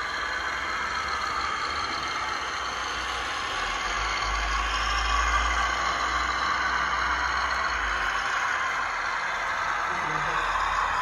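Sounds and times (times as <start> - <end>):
model truck motor whirring: 0.0 - 11.0.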